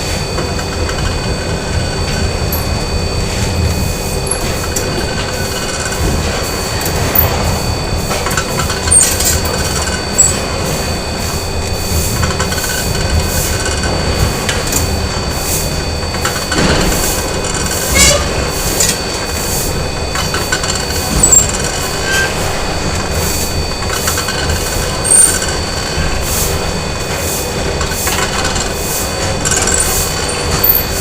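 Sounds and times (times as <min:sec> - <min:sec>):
constant high whines: 0:00.0 - 0:31.0
factory machinery din: 0:00.0 - 0:31.0
rhythmic clatter: 0:00.0 - 0:31.0.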